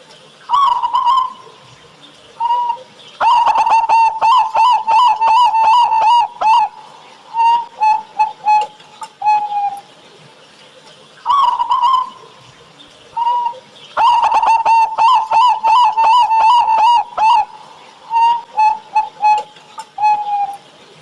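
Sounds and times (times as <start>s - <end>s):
doves cooing: 0.2s - 21.0s.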